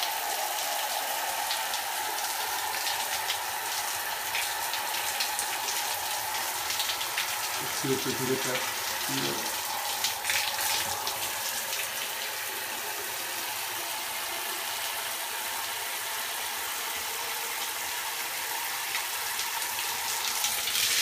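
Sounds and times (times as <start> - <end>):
shower spray running: 0.0 - 21.0.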